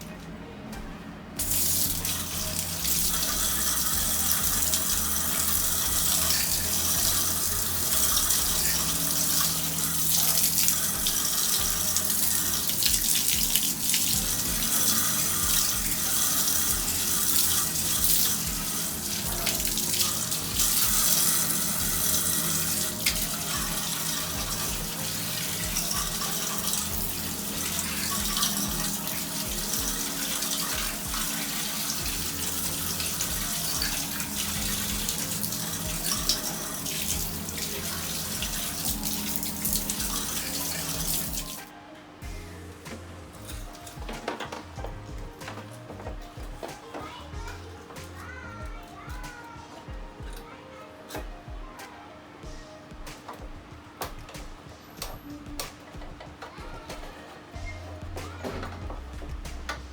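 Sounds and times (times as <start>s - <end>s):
water spraying: 1.4s - 49.5s.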